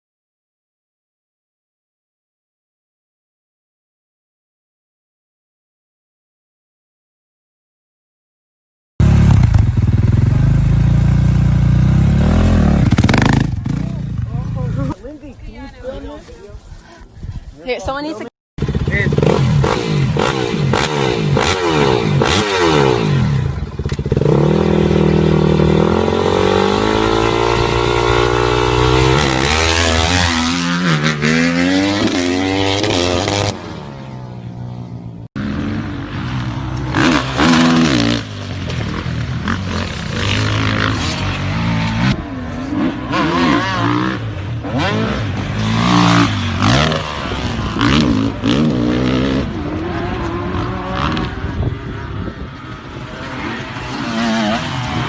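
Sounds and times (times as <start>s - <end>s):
dirt bike engines revving: 9.0s - 55.0s.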